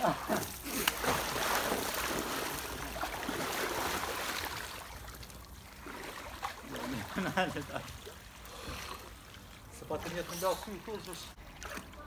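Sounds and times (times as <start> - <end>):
water sloshing and splashing: 0.3 - 12.0.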